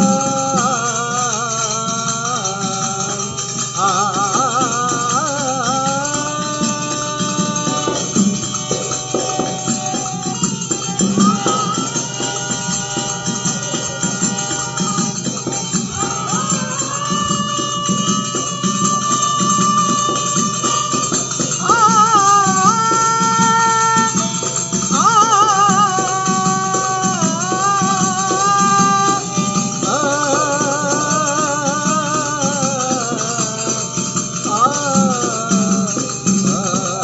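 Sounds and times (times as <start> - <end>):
men singing held notes: 0.0 - 37.0
steady percussion rhythm: 0.0 - 37.0.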